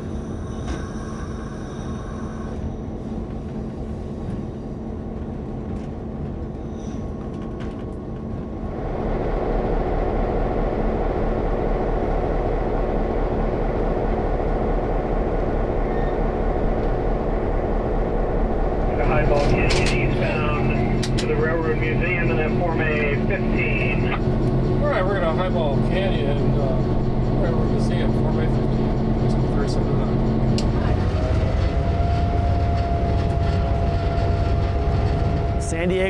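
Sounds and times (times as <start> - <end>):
train rumbling: 0.0 - 36.0.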